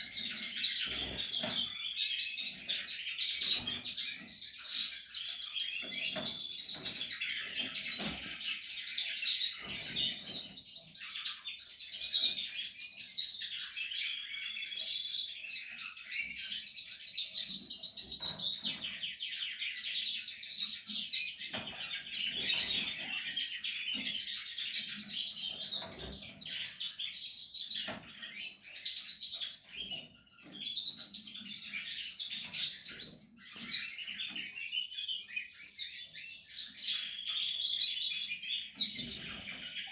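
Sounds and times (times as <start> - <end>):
canaries singing in trills: 0.0 - 39.9.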